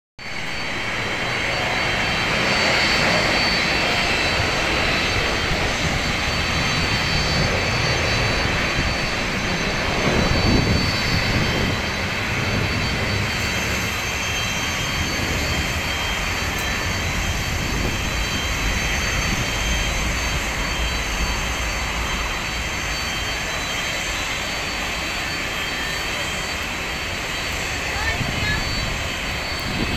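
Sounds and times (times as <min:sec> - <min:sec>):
jet airliner taking off: 0:00.2 - 0:29.9.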